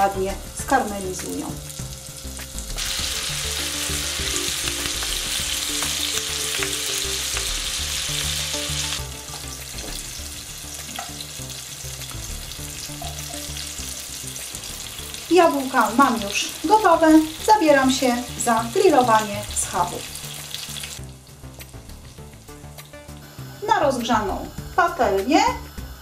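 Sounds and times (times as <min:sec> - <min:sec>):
apples sizzling in a frying pan: 0:00.0 - 0:26.0.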